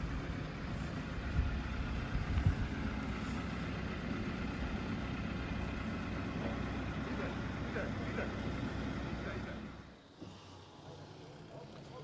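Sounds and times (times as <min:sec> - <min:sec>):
excavator engine rumbling: 0:00.0 - 0:12.0.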